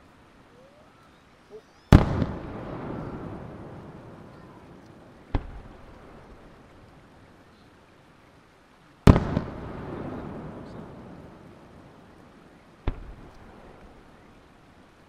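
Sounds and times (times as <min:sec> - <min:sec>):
fireworks bursting with echoes: 0:00.7 - 0:07.8, 0:09.0 - 0:14.9.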